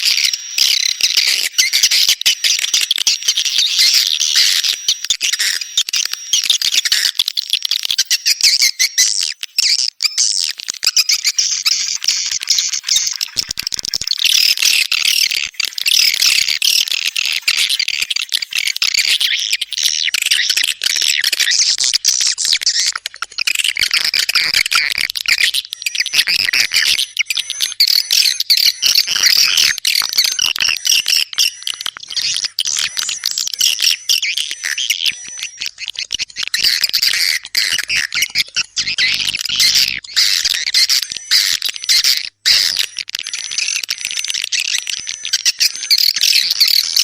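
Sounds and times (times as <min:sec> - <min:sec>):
swiftlets chirping and twittering: 0:00.0 - 0:47.0.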